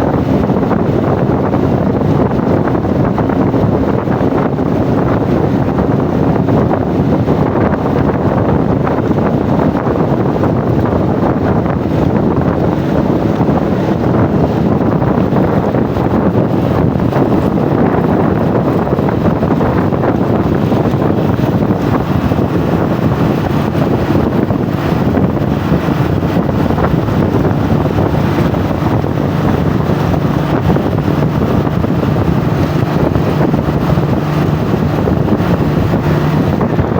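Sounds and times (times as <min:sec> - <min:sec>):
low engine drone: 0:00.0 - 0:36.9
wind buffeting microphone: 0:00.0 - 0:36.9.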